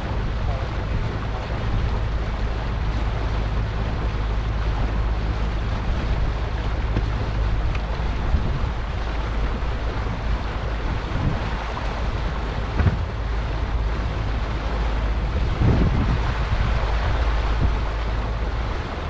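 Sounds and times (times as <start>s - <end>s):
boat engine hum: 0.0s - 19.0s
rushing water: 0.0s - 19.0s
wind rumbling on microphone: 0.0s - 19.0s.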